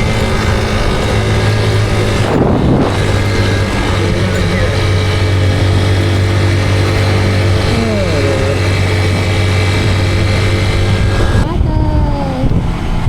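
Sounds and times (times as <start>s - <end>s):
motorcycle engine humming: 0.0s - 13.0s
road and wind noise: 0.0s - 13.0s.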